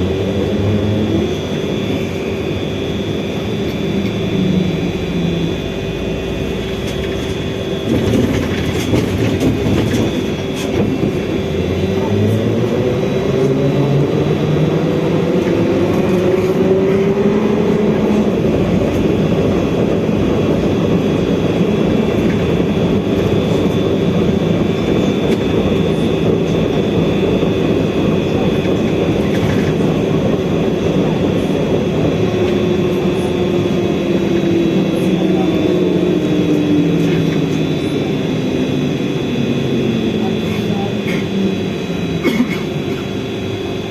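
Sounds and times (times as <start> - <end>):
road and body rumble: 0.0 - 43.9.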